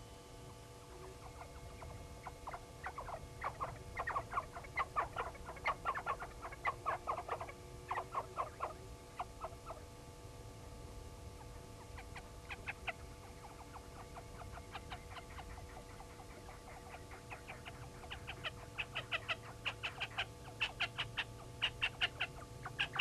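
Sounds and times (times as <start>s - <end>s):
lapwing calling: 0.8s - 10.0s, 11.3s - 23.0s.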